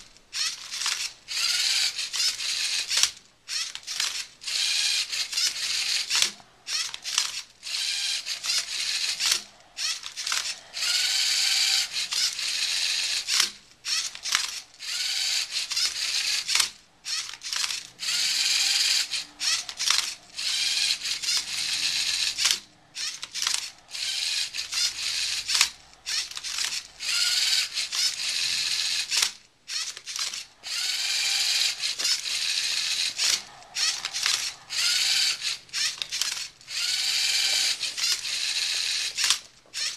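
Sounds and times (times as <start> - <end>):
robot motors whirring: 0.3 - 39.9.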